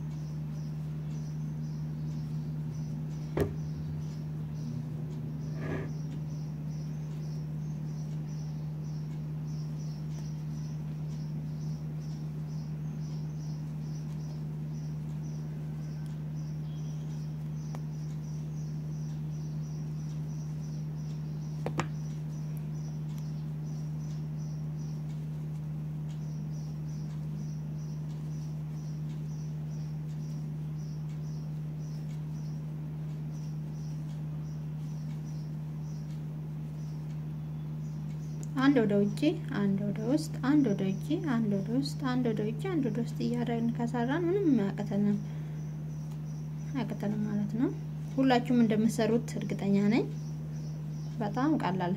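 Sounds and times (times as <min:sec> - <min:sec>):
cricket chirping: 0:00.0 - 0:39.4, 0:40.4 - 0:51.9
low hum: 0:00.0 - 0:51.9.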